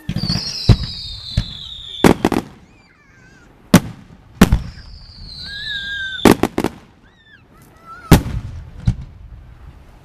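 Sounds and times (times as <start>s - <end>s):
firework whistle: 0.0s - 3.0s, 3.8s - 9.0s
fireworks bangs: 0.0s - 9.8s.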